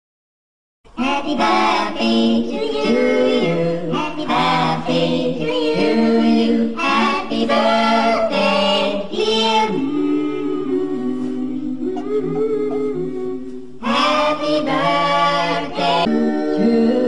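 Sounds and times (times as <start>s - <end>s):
group of voices singing: 0.9s - 17.0s.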